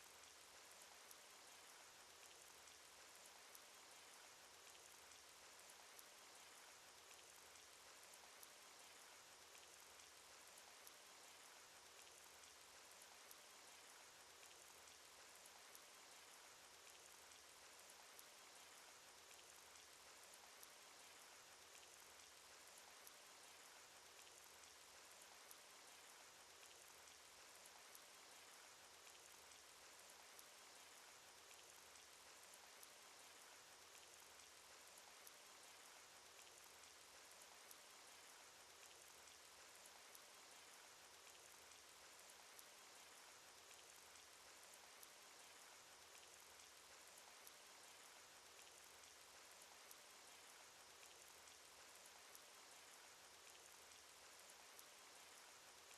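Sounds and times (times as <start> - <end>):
raindrop ticks: 0.0 - 55.9.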